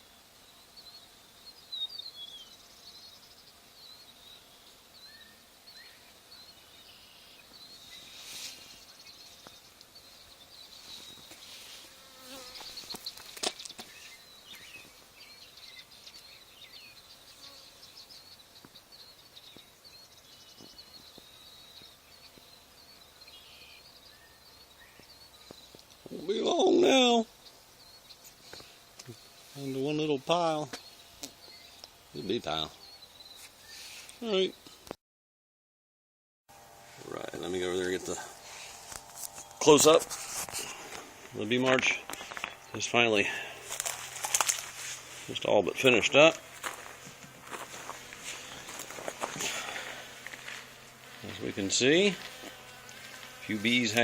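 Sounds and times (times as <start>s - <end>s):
honey bees buzzing: 0.0s - 34.6s, 36.5s - 54.0s.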